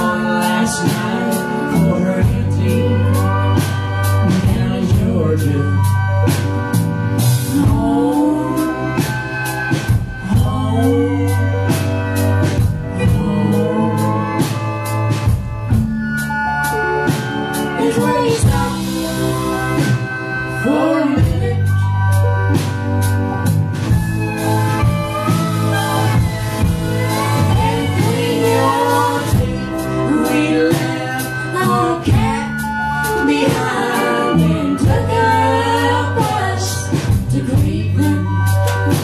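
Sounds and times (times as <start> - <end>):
person singing: 0.0 - 6.3, 7.4 - 15.4, 17.5 - 22.2, 24.8 - 39.0
drum kit beat: 0.0 - 39.0
electric guitar: 0.0 - 39.0
keyboard: 0.0 - 39.0
low bass notes: 0.0 - 39.0.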